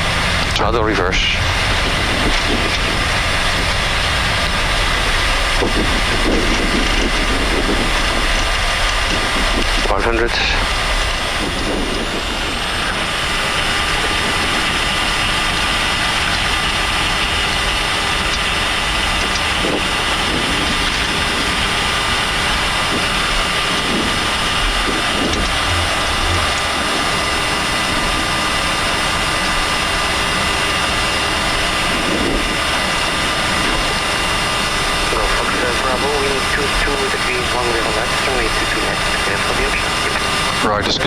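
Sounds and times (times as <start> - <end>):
high engine whine: 0.0 - 41.0
jet engines idling hiss: 0.0 - 41.0.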